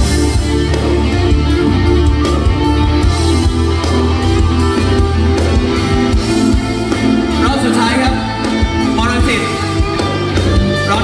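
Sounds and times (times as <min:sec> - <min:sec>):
electric guitar playing: 0:00.0 - 0:11.0
heavy bass line: 0:00.0 - 0:11.0.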